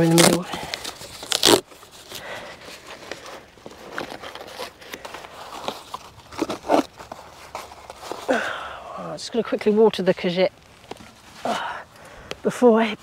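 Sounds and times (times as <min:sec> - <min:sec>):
hands rustling cardboard and soil: 0:00.0 - 0:13.0.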